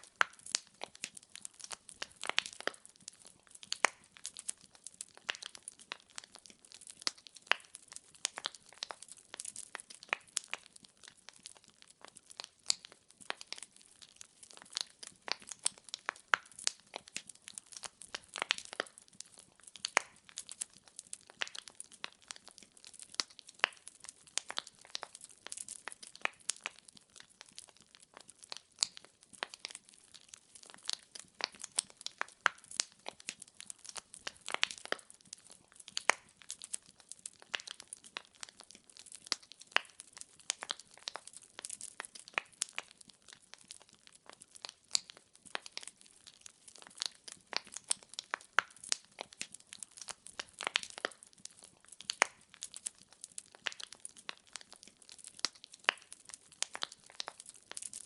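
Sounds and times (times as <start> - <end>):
wood fire snapping and popping: 0.0 - 58.0.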